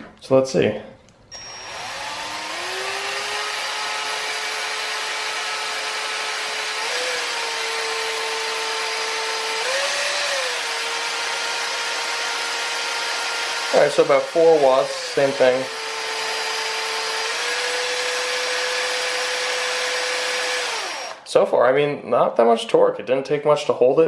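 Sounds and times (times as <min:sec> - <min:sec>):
power drill motor whine: 0:01.3 - 0:21.2.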